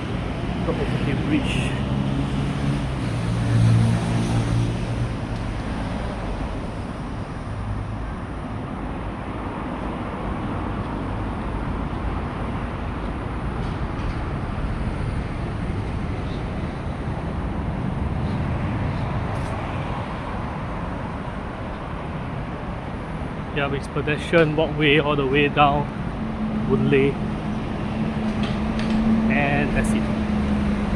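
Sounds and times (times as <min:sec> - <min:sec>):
road traffic hum: 0:00.0 - 0:30.9.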